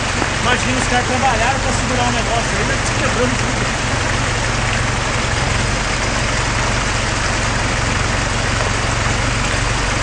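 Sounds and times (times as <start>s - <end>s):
truck engine at low revs: 0.0s - 10.0s.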